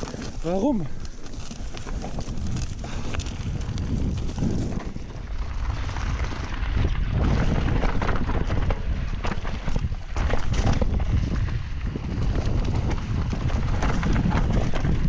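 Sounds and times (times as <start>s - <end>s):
bike clicks and rattles: 0.0s - 15.0s
wind on microphone: 0.0s - 15.0s.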